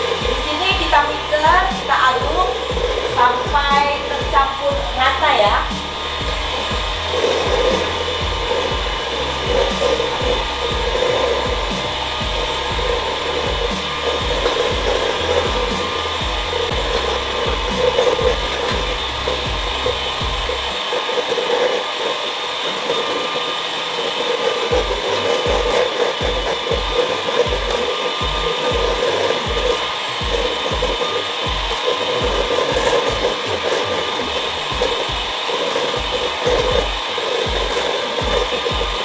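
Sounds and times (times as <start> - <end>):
electric hand mixer whirring: 0.0 - 39.0.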